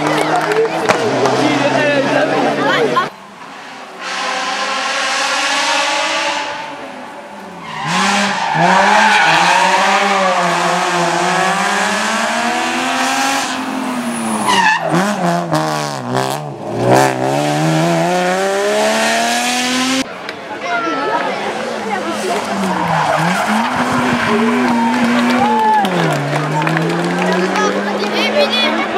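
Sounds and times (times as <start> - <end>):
rally car engine revving: 0.0 - 20.1, 21.4 - 28.9.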